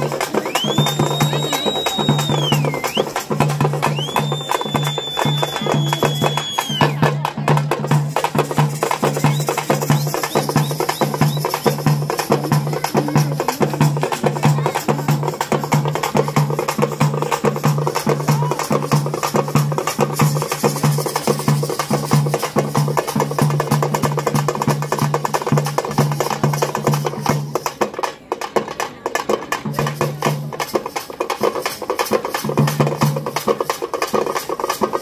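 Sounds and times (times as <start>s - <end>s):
rapid drum strokes: 0.0s - 35.0s.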